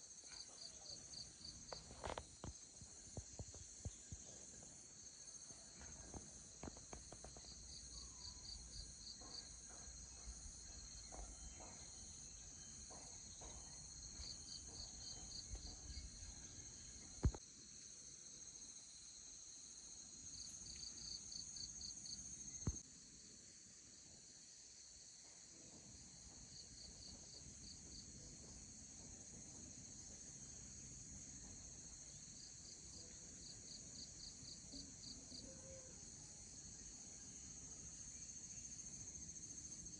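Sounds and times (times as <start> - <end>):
insects chirring: 0.0 - 23.4, 25.8 - 39.9.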